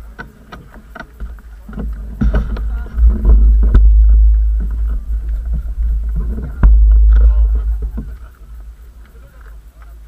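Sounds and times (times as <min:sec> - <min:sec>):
clicks and knocks: 0:00.2 - 0:08.4
wind buffeting microphone: 0:01.4 - 0:10.0.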